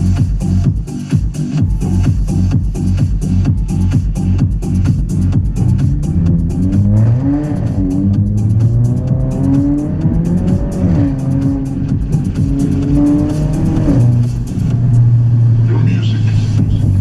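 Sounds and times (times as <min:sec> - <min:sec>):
music: 0:00.0 - 0:17.0
car engine accelerating: 0:02.9 - 0:17.0.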